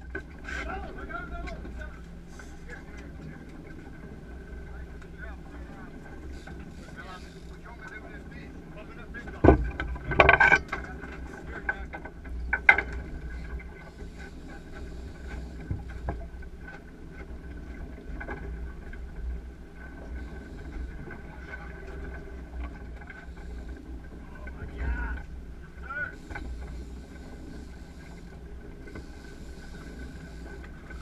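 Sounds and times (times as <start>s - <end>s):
boat engine low rumble: 0.0s - 31.0s.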